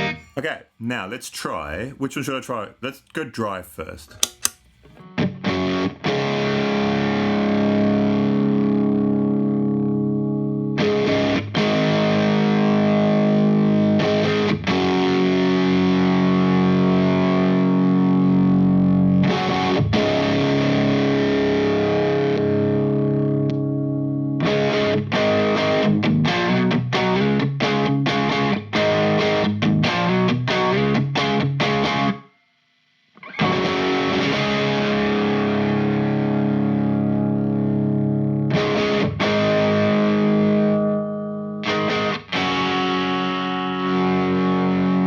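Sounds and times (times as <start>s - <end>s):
distorted electric guitar: 0.0s - 0.4s, 5.0s - 32.3s, 33.2s - 45.0s.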